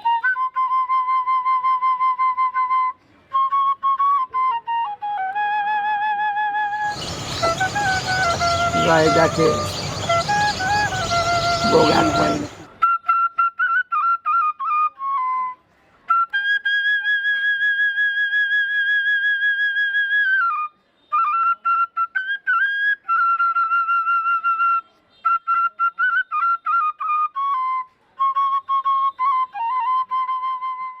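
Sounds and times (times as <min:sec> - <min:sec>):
solo flute melody: 0:00.0 - 0:31.0.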